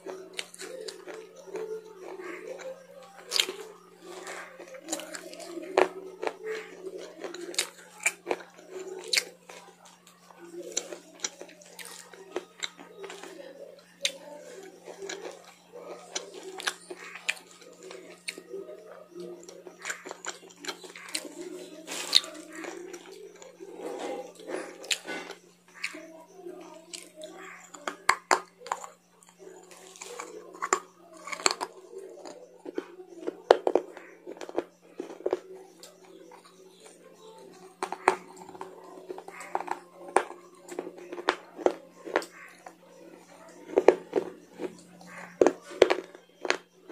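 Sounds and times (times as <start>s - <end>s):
crunchy chewing clicks: 0.0s - 46.9s
faint low hum: 0.0s - 46.9s.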